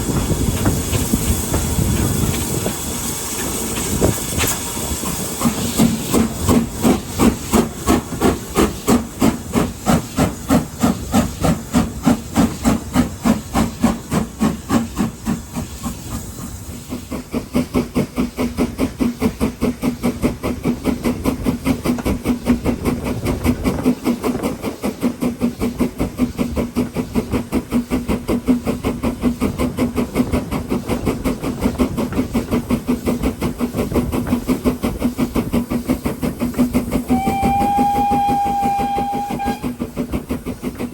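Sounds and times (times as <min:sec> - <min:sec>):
hissing steam: 0:00.0 - 0:40.9
steam locomotive chuffing: 0:00.0 - 0:40.9.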